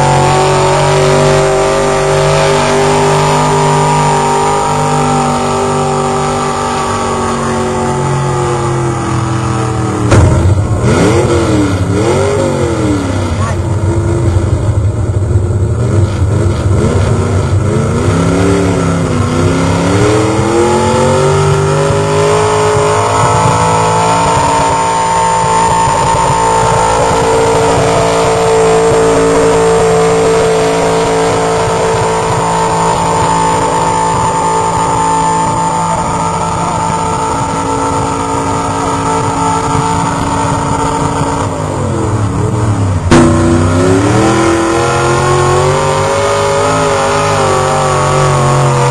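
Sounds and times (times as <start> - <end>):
truck engine under full load: 0.0 - 48.9.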